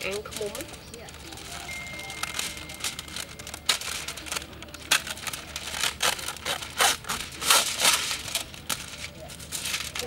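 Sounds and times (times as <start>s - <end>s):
foil crinkling and tearing: 0.0s - 10.0s.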